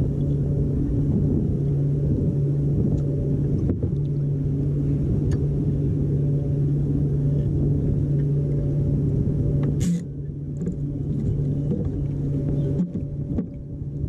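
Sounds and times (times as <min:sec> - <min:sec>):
constant low hum: 0:00.0 - 0:14.0
water and wind rumble: 0:00.0 - 0:14.0.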